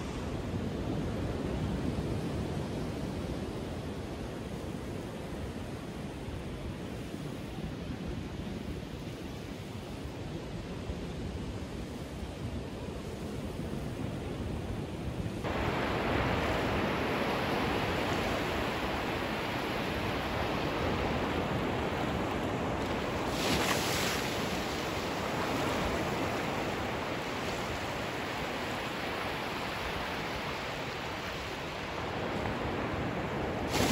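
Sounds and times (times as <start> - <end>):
ocean surf on pebbly beach: 0.0 - 33.9.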